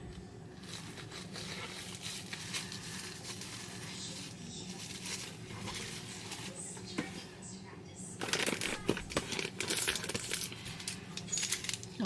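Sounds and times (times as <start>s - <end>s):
packaging rustling and scraping: 0.6s - 7.2s, 8.2s - 12.0s.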